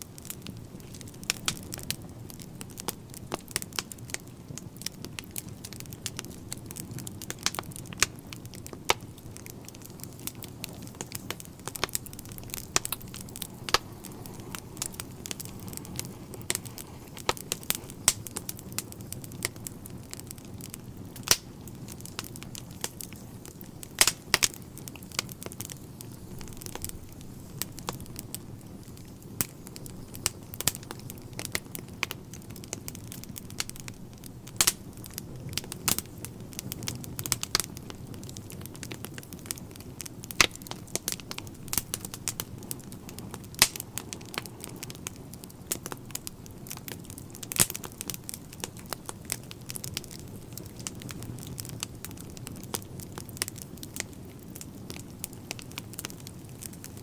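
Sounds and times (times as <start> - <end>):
fire flames rumbling: 0.0 - 57.0
logs crackling and popping: 0.0 - 57.0.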